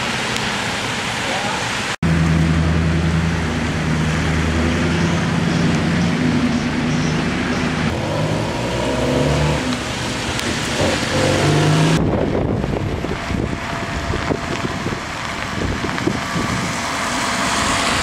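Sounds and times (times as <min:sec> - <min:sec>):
wind and rain hiss: 0:00.0 - 0:18.0
vehicle engines humming: 0:02.0 - 0:18.0.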